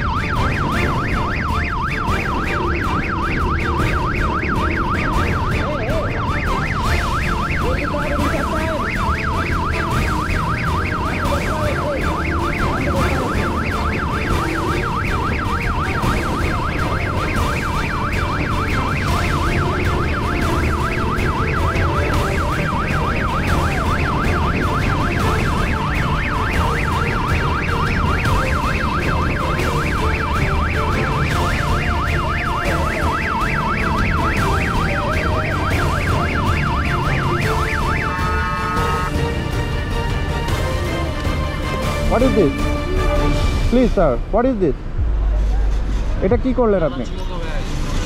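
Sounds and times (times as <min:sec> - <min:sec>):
motorcycle siren yelping: 0:00.0 - 0:44.5.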